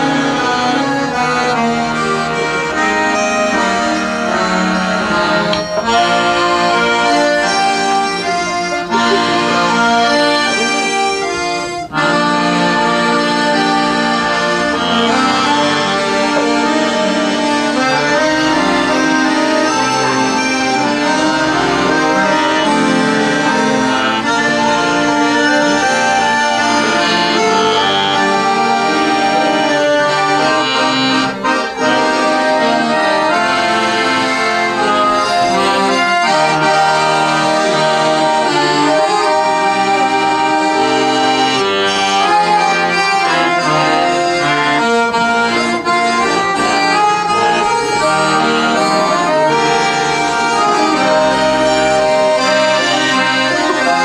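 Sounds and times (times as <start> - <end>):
accordion ensemble playing chords: 0.0 - 54.0.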